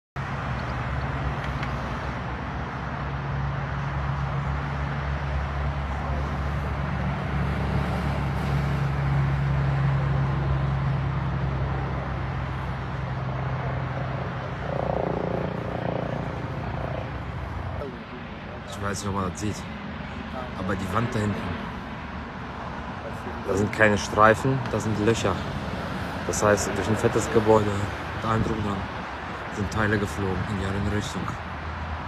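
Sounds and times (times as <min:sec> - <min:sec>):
vehicle engine humming: 0:00.2 - 0:32.0
broad rushing noise: 0:00.3 - 0:32.0.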